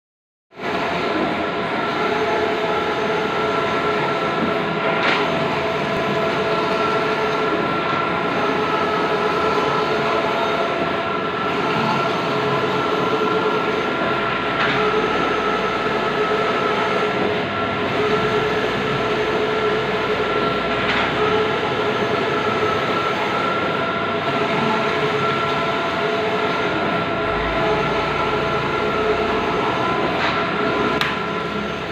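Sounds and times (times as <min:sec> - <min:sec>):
printer mechanical whirr: 0:00.6 - 0:31.9.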